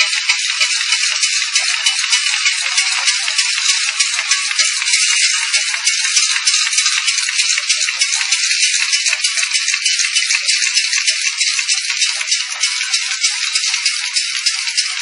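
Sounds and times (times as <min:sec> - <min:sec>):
labeling machine rattling and clicking: 0:00.0 - 0:15.0.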